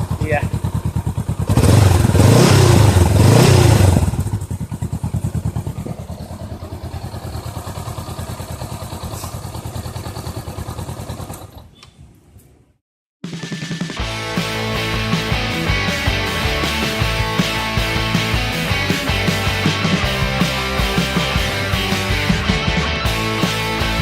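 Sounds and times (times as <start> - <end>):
motorcycle engine revving and idling: 0.0 - 11.8, 13.3 - 24.0.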